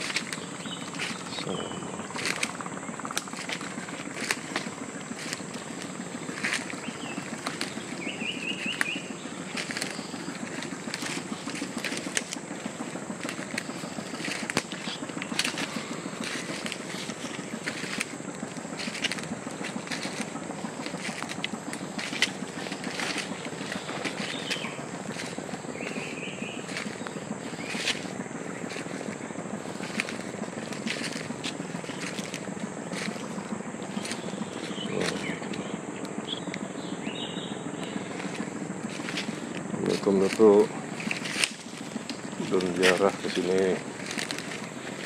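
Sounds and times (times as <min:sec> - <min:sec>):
crackles and rustles: 0:00.0 - 0:36.7, 0:37.6 - 0:45.0
low rumble: 0:00.0 - 0:40.0
bird trilling call: 0:00.0 - 0:45.0
high insect drone: 0:00.0 - 0:45.0.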